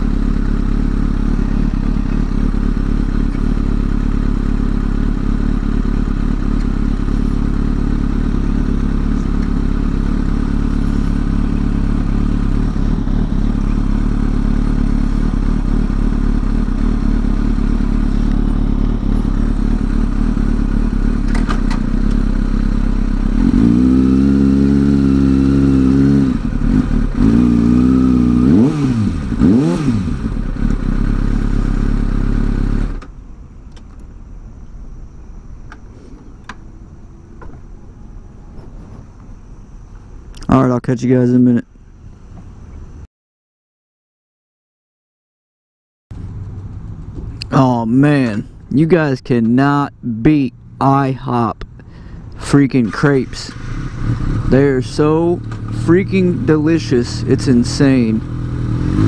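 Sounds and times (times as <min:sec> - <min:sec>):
motorcycle engine idling: 0:00.0 - 0:40.6, 0:46.2 - 0:59.0
engine throttle blips: 0:00.0 - 0:43.0, 0:46.1 - 0:59.0.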